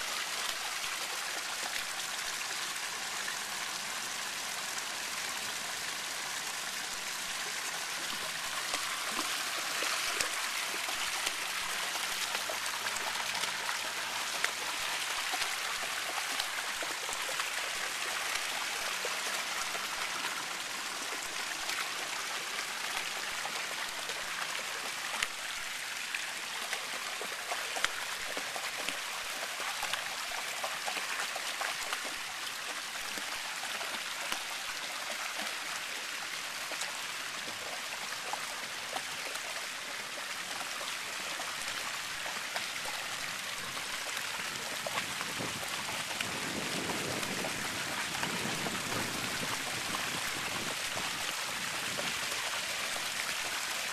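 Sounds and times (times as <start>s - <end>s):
shallow water running over stone: 6.6s - 53.9s.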